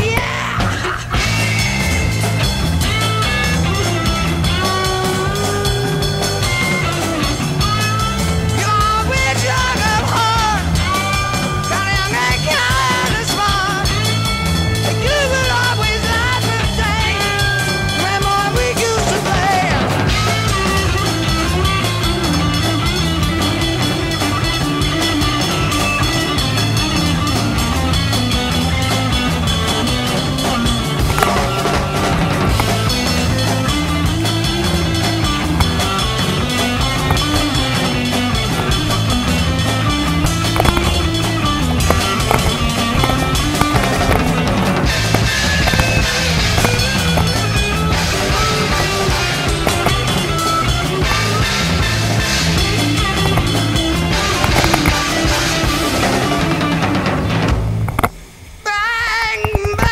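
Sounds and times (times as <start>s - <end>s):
rock music with singing: 0.0s - 59.9s.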